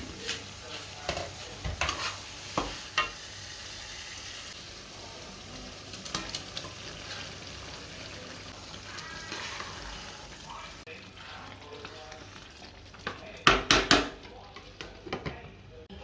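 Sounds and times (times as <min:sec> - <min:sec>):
food sizzling in a pan: 0:00.0 - 0:13.6.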